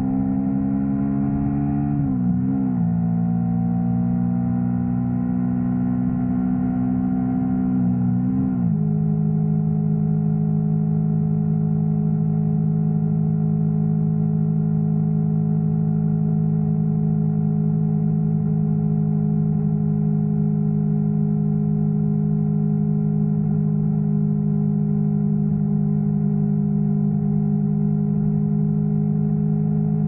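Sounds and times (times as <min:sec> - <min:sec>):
motorcycle engine running steadily: 0:00.0 - 0:02.0, 0:02.7 - 0:30.0.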